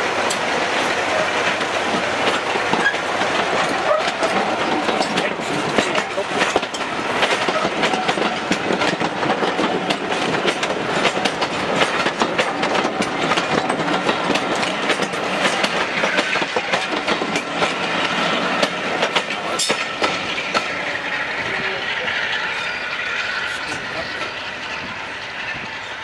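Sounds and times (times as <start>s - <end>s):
train wheels clattering over rail joints: 0.2s - 26.0s.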